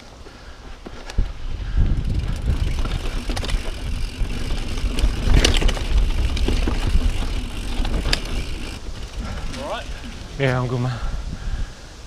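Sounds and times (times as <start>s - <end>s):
bike rattling and knocking: 0.6s - 10.8s
low rumble of tyres: 1.1s - 11.4s
wind on microphone: 1.1s - 12.0s.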